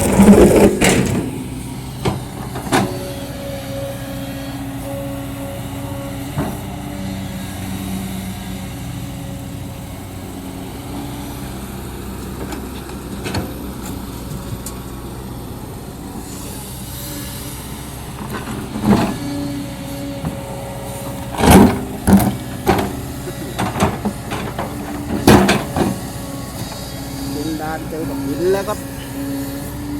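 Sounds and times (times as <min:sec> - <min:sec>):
excavator diesel engine under load: 0:00.0 - 0:29.9.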